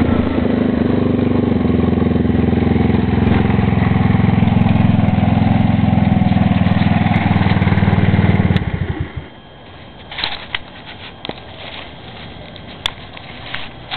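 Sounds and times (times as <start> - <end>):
scooter engine running and shutting off: 0.0 - 13.9.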